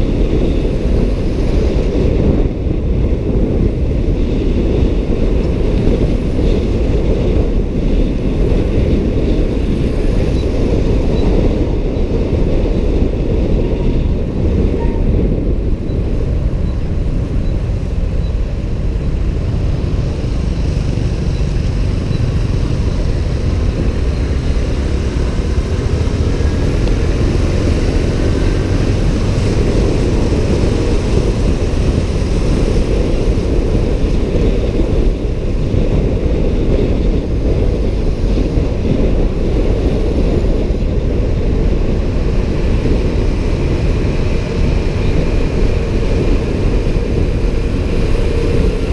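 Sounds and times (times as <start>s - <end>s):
vehicle noise: 0.0s - 48.9s
wind rumble on microphone: 0.0s - 48.9s.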